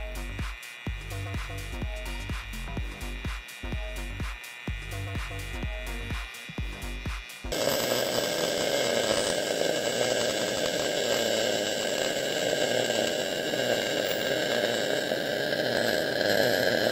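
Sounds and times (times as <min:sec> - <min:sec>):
welding arc crackling hiss: 0:00.0 - 0:16.9.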